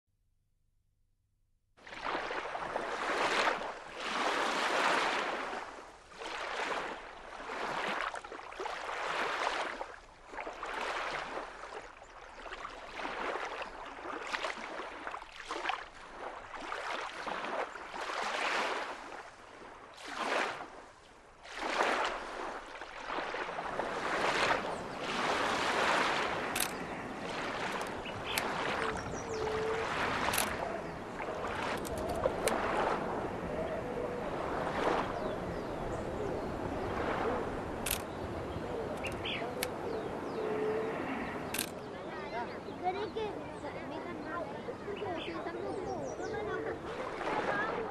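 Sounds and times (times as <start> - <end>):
water sloshing and splashing: 1.8 - 33.8, 34.4 - 35.7, 36.5 - 41.9, 46.2 - 47.9.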